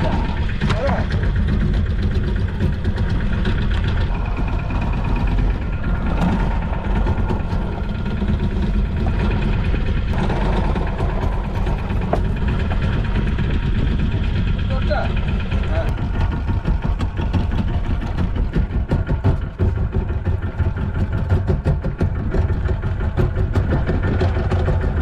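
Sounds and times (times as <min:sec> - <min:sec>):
boat engine idling: 0:00.0 - 0:25.0.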